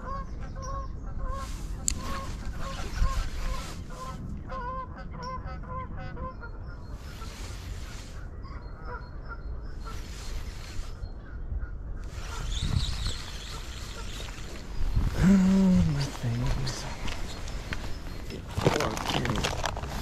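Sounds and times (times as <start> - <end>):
geese honking: 0.0 - 18.2
wind on microphone: 0.0 - 20.0.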